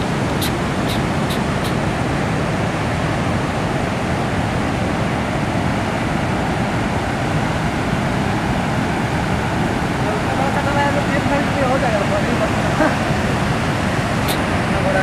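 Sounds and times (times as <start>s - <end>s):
water rushing over dam spillway: 0.0s - 15.0s.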